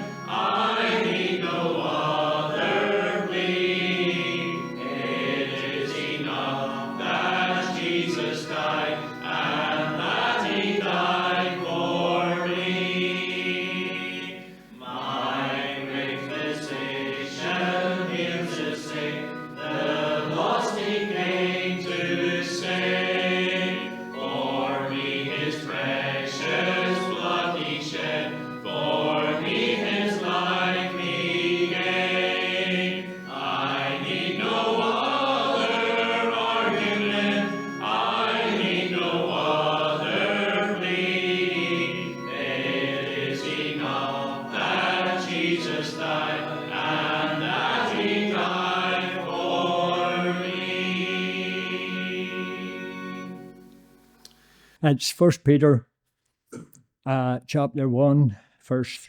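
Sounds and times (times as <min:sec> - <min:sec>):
congregation singing a hymn: 0:00.0 - 0:54.1.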